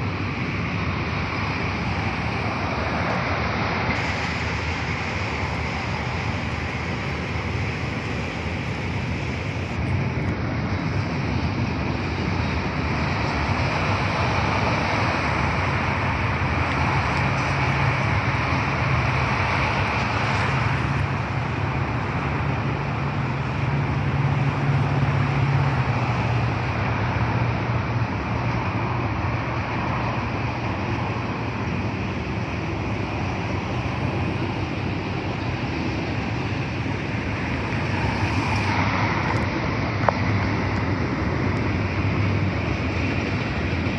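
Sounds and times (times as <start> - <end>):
low drone: 0.0 - 43.9
train wheels rumbling on rails: 0.0 - 43.9.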